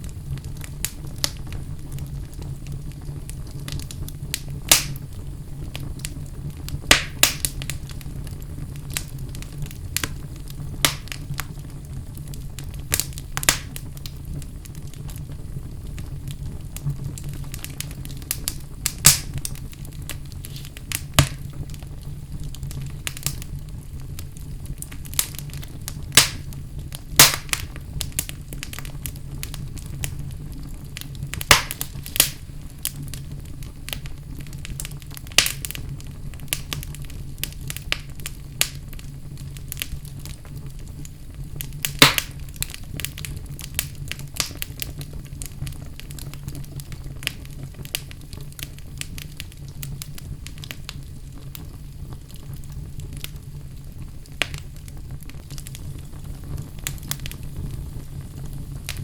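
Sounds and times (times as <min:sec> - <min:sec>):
fire crackling in fireplace: 0:00.0 - 0:59.0
sharp pops of fire: 0:00.0 - 0:59.0.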